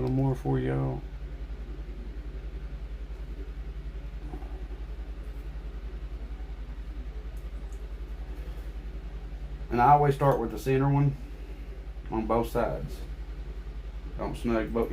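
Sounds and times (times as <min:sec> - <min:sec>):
pulsing machine hum: 0:00.0 - 0:14.9.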